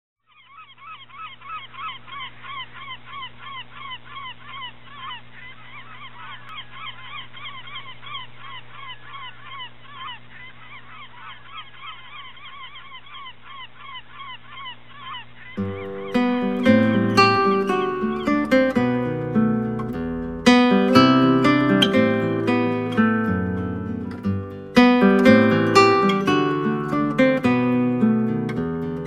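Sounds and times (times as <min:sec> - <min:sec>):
flock of water birds calling: 0:00.3 - 0:28.6.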